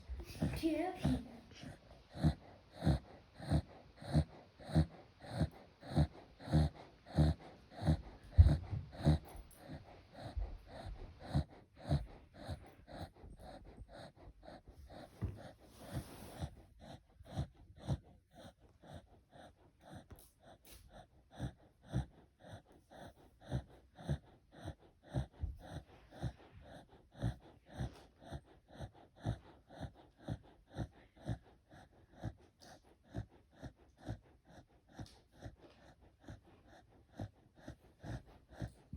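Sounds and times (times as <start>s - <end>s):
sheep snoring: 0.0s - 38.9s.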